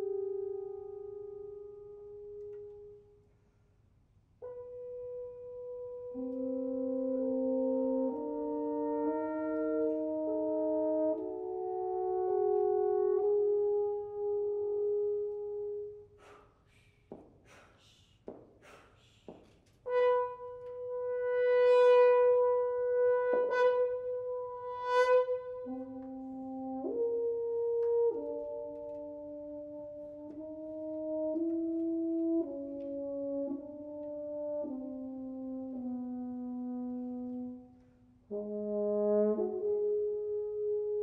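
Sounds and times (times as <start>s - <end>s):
french horns playing: 0.0s - 3.2s, 4.4s - 16.2s, 19.8s - 41.0s.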